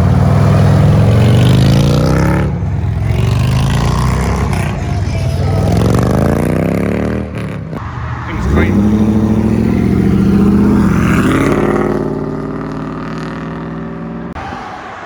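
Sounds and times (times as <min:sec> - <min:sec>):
car engine accelerating hard: 0:00.0 - 0:14.4.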